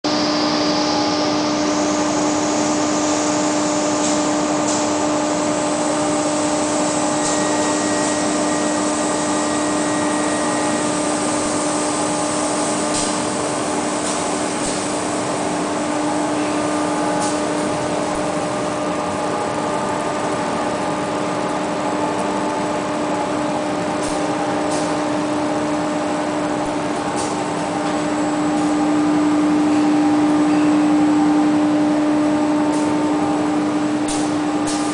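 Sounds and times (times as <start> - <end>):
machine hum with steady tone: 0.0 - 34.9.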